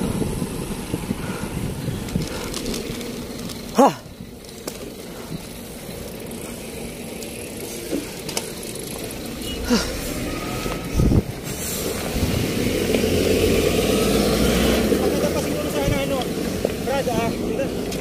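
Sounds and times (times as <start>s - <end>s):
low vehicle rumble: 0.0s - 18.0s
road traffic noise: 0.0s - 18.0s.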